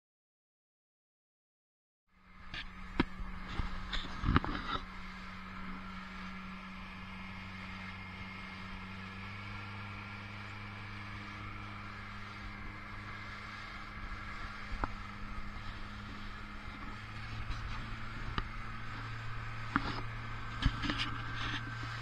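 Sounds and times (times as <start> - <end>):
outboard motor droning: 2.1 - 22.0.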